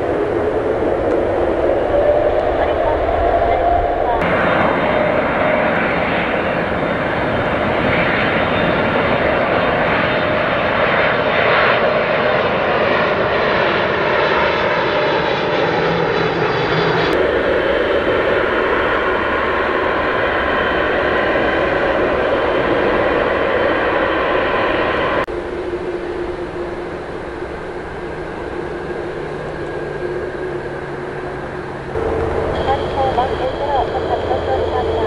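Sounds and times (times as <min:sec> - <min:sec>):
jet engine noise on runway: 0:00.0 - 0:35.0
jet engines at takeoff power: 0:00.0 - 0:35.0.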